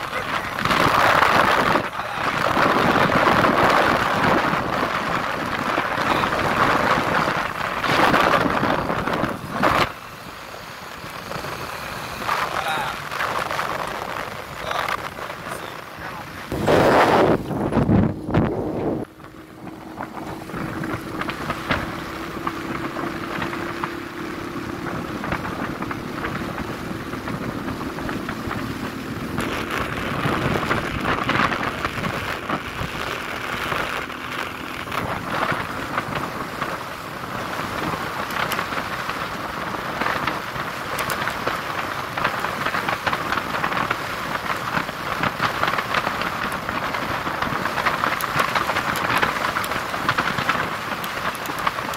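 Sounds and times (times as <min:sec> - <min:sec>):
wind and road noise rushing: 0:00.0 - 0:51.9.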